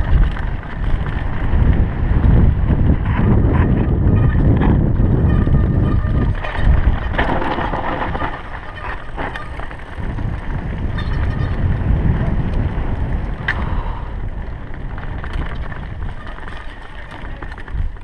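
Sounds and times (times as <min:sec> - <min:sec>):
bike clicks and rattles: 0:00.0 - 0:18.0
tyre rumble: 0:00.0 - 0:18.0
wind buffeting: 0:00.0 - 0:18.0.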